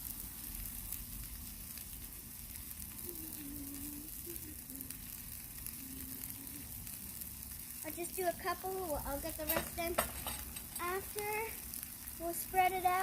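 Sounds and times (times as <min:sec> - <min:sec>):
chicken sizzling on a griddle: 0:00.0 - 0:13.0.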